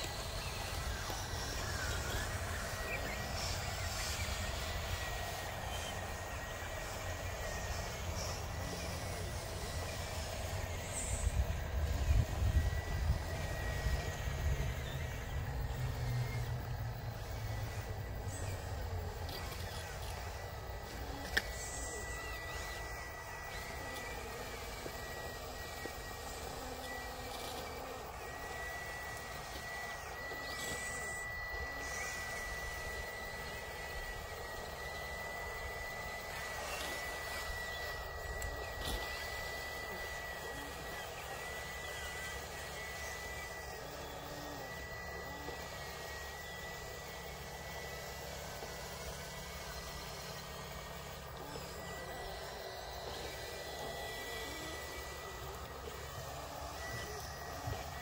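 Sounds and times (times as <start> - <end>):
thin wavering high whine: 0.0 - 58.0.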